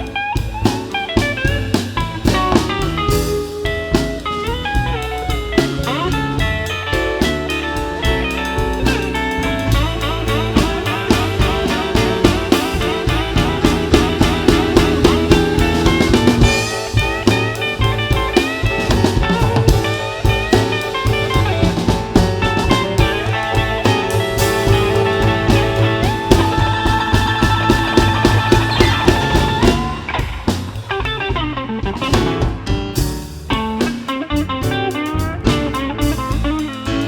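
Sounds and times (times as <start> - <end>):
bass guitar: 0.0 - 37.0
drum kit: 0.0 - 37.0
electric guitar: 0.0 - 37.0
piano: 0.0 - 37.0.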